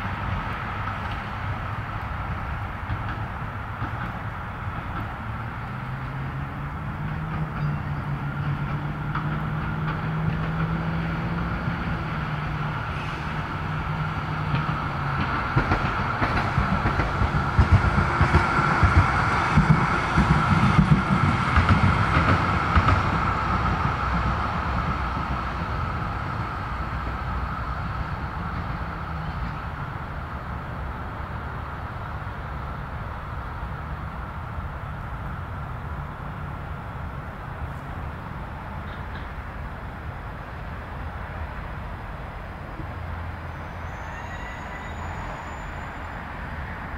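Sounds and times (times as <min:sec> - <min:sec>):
distant vehicle rumble: 0:00.0 - 0:46.9.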